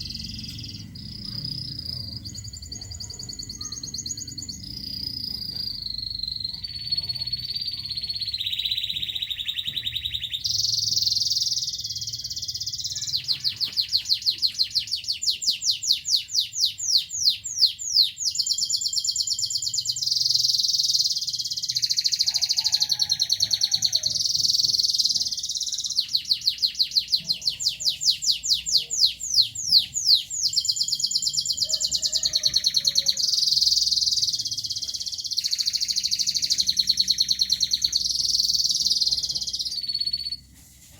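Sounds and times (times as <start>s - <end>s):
canary singing: 0.0s - 40.5s.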